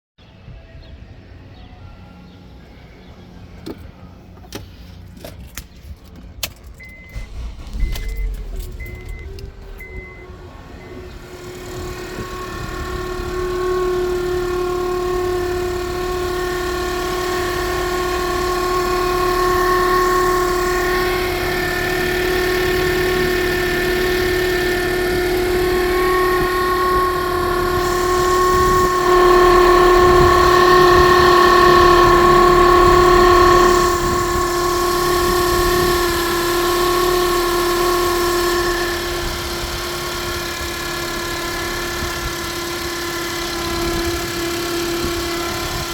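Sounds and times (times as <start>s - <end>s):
engine rumble: 0.2s - 45.9s
whistling whine: 6.8s - 45.9s.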